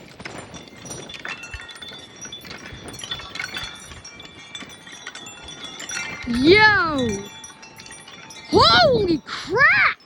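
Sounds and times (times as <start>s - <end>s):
wind chime jangling: 0.0s - 10.0s.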